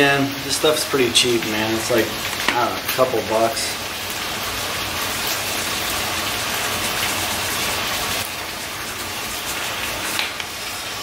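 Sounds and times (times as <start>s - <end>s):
food sizzling on stove: 0.0s - 11.0s.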